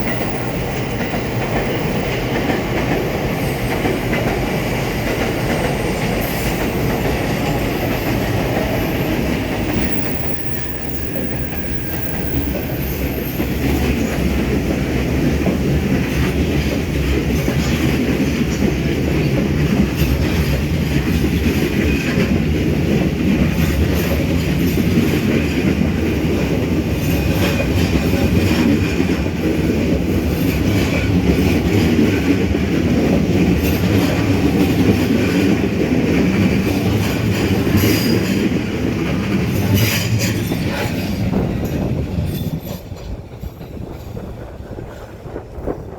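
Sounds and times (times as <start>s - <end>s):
train wheels clicking over rail joints: 0.0s - 45.9s.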